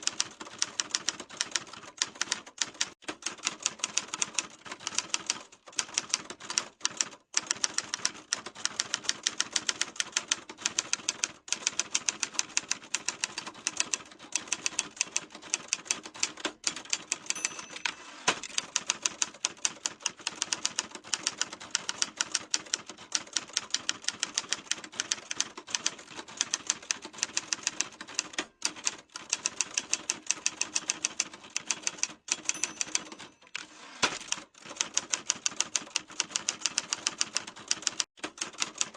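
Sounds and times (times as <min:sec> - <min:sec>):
typewriter keys striking: 0:00.0 - 0:38.9.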